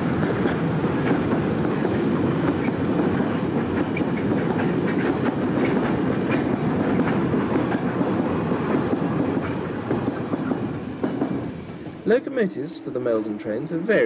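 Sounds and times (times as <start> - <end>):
wheels clattering over rail joints: 0.0 - 12.2
freight train rumble: 0.0 - 14.0.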